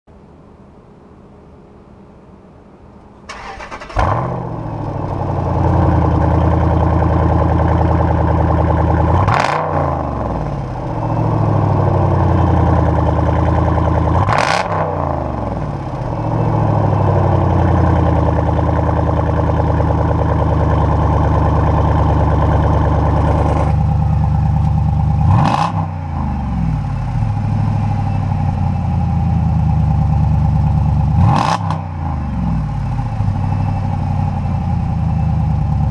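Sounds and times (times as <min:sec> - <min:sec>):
car engine starting idling and revving: 0:03.3 - 0:35.9.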